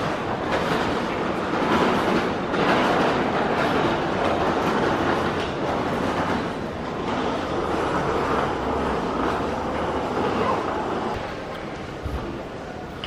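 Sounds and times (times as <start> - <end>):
subway train rail noise: 0.0 - 13.0.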